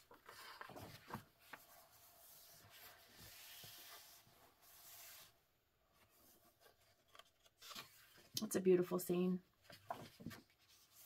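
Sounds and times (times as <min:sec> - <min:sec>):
hand rustling book pages: 0:00.0 - 0:05.3, 0:05.9 - 0:08.4, 0:09.6 - 0:11.0.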